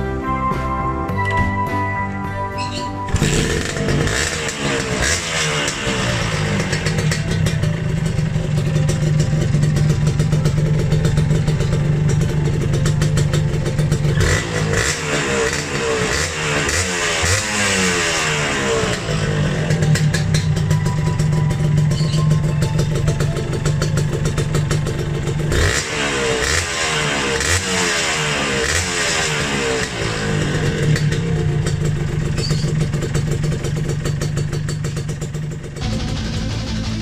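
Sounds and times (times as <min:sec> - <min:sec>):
engine throttle blips: 0:02.6 - 0:37.0
two-stroke engine idling: 0:03.1 - 0:37.0.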